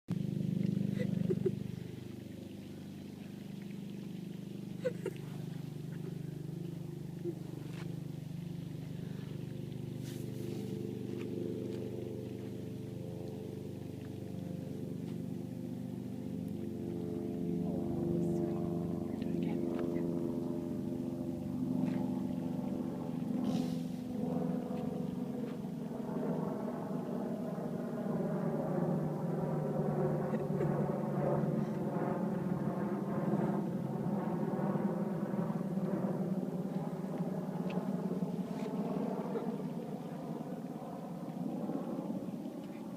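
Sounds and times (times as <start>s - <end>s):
low mechanical hum: 0.1s - 42.9s.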